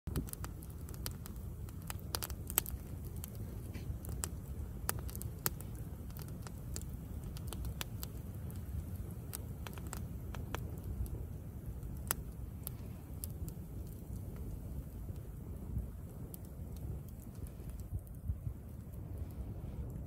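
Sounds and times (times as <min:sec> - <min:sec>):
campfire crackling and popping: 0:00.1 - 0:20.0.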